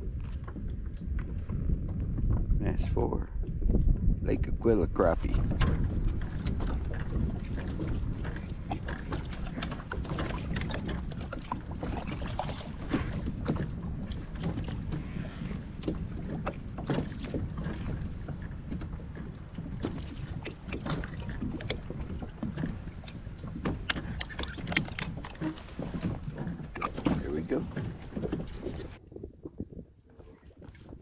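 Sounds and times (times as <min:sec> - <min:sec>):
waves slapping kayak hull: 0:00.0 - 0:31.0
wind buffeting microphone: 0:00.0 - 0:31.0.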